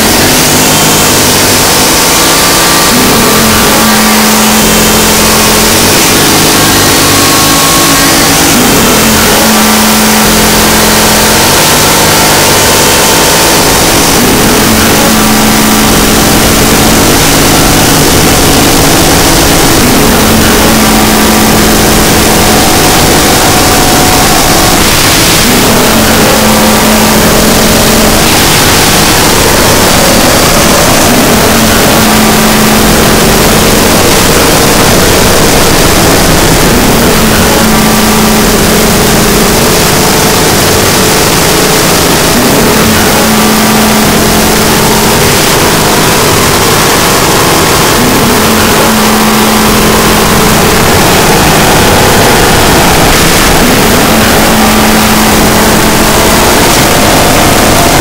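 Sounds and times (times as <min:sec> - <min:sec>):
distorted electronic noise: 0:00.0 - 0:58.0
low sliding drone tone: 0:00.0 - 0:58.0.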